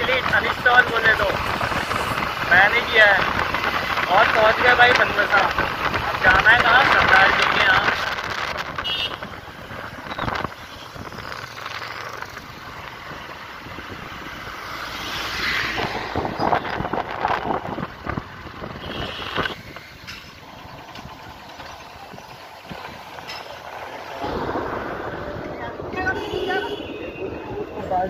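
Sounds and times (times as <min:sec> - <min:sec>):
motorcycle running: 0:00.0 - 0:28.0
traffic: 0:00.0 - 0:28.0.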